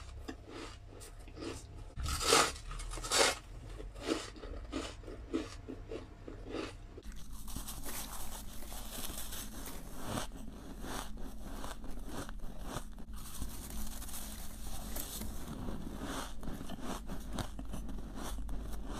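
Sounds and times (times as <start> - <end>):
ice crunching while chewing: 0.0 - 18.9.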